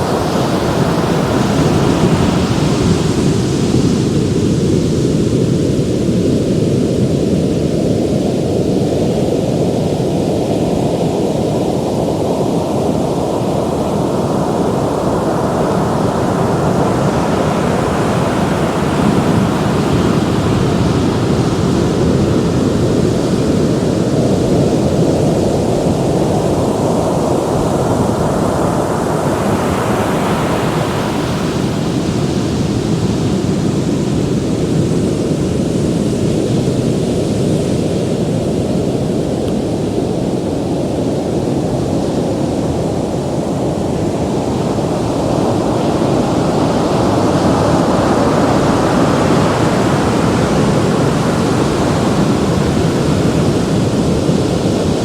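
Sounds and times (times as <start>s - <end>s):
ocean waves breaking: 0.0s - 7.7s, 10.6s - 55.0s.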